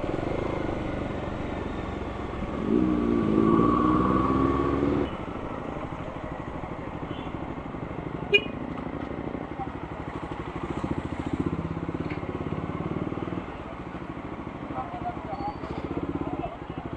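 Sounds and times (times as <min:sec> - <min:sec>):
motorcycle engine: 0:00.0 - 0:16.9.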